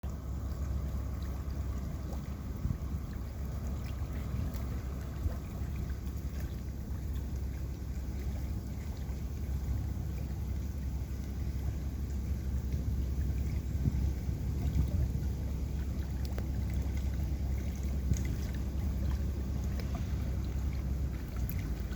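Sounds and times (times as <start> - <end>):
boat engine rumble: 0.0 - 21.9.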